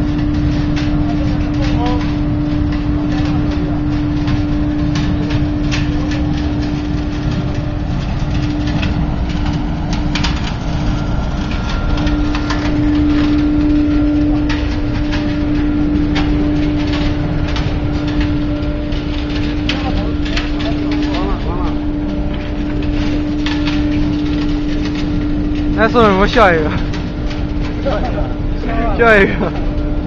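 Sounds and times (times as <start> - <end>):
sharp crackles: 0.0 - 29.4
burner flame roaring: 0.0 - 30.0
constant tone: 0.0 - 30.0.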